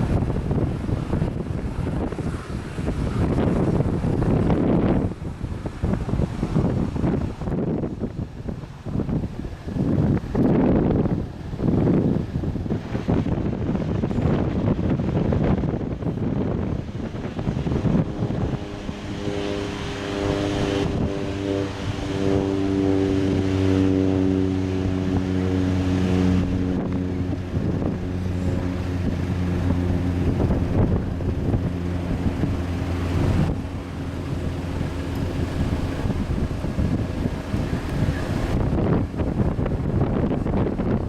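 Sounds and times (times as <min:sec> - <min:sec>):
airliner engines humming: 0:00.0 - 0:41.0
wind buffeting microphone: 0:00.0 - 0:41.0.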